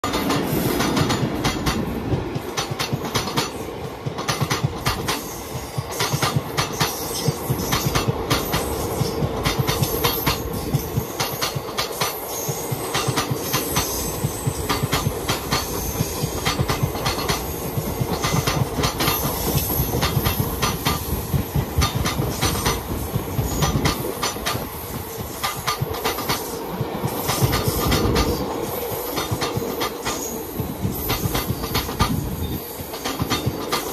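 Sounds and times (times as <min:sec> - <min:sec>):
train wheels clattering over joints: 0:00.0 - 0:33.9.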